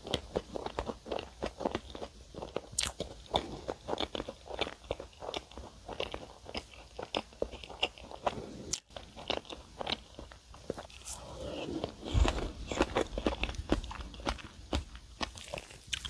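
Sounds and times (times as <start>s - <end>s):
chewing pastry crunches: 0.0s - 16.0s.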